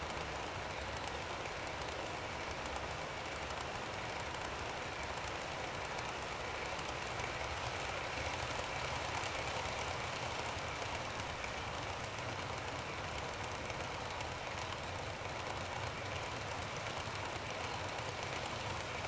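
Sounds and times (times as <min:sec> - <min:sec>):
model train wheels rumbling: 0:00.0 - 0:19.0.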